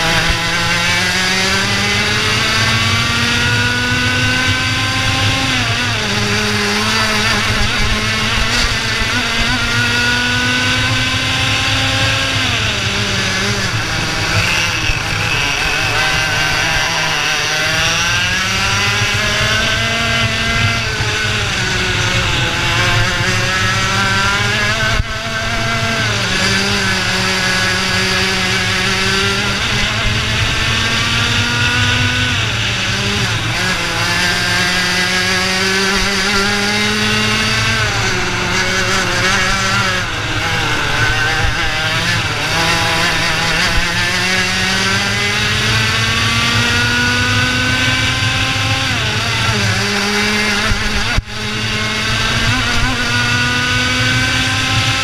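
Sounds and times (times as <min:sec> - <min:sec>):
kart engine racing: 0:00.0 - 0:55.0.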